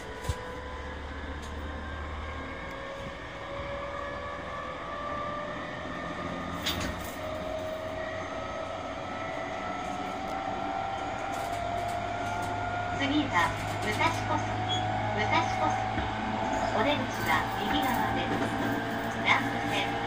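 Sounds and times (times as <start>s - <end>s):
traction motor whine: 0.0s - 20.0s
wheel and rail noise: 0.0s - 20.0s.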